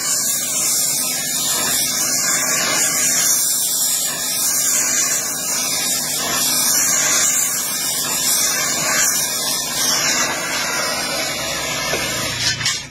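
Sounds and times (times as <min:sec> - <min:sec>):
gas torch flame hissing: 0:00.0 - 0:12.9.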